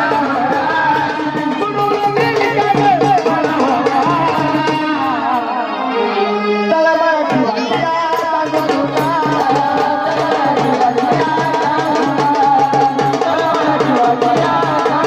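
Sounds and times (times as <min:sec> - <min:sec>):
fast drum beat: 0:00.0 - 0:05.2, 0:07.3 - 0:15.0.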